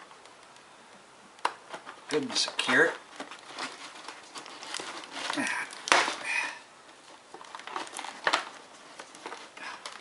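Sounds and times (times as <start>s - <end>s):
packaging rustling and clicking: 1.3s - 10.0s.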